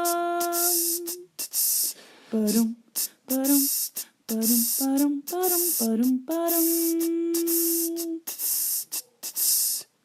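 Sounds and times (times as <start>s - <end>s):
person singing sound effects: 0.0s - 8.6s
hissing sh noise: 0.0s - 9.9s.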